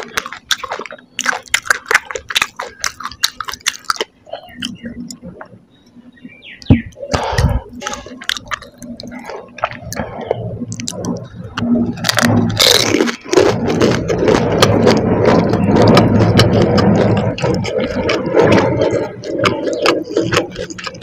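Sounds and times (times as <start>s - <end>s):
crisp shell cracking in mouth: 0.0s - 5.2s, 7.1s - 21.0s
wet crunchy chewing: 0.0s - 5.5s, 6.6s - 21.0s
mouth clicks: 0.0s - 21.0s.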